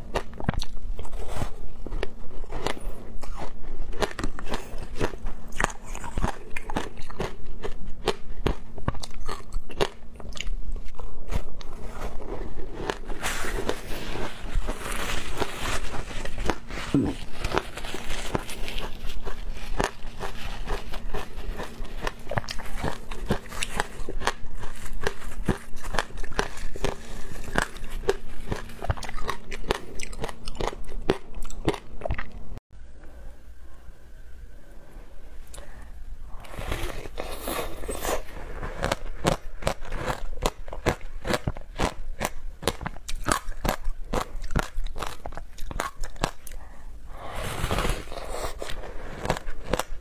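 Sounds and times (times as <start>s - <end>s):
crunching and chewing ice: 0.0s - 32.4s, 36.4s - 46.7s, 47.8s - 50.0s.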